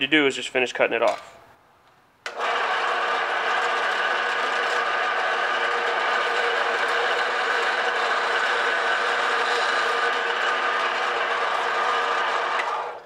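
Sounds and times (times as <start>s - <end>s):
bandsaw whining: 2.3s - 13.0s.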